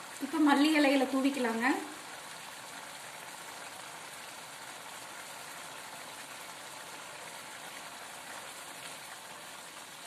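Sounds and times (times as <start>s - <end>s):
thick gravy bubbling in a pan: 0.0s - 10.0s.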